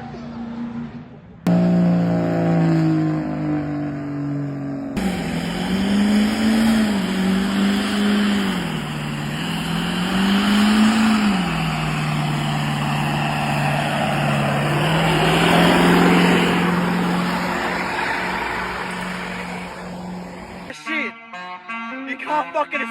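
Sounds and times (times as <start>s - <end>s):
diesel truck engine revving: 0.0s - 20.7s.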